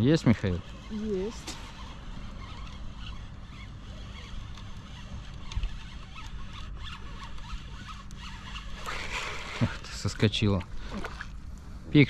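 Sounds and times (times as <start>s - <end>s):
steady low hum: 0.0s - 12.0s
fishing reel clicking: 0.3s - 10.4s.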